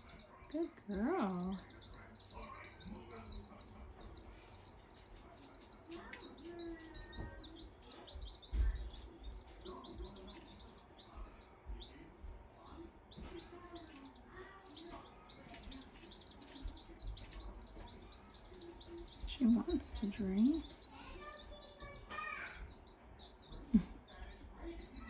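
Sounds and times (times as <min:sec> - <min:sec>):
baby chicks peeping: 0:00.0 - 0:25.0.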